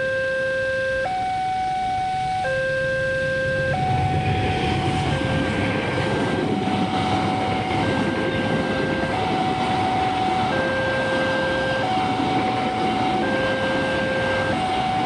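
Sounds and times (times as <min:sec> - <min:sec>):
two-tone crossing alarm: 0:00.0 - 0:15.0
train passing rumble: 0:02.8 - 0:15.0.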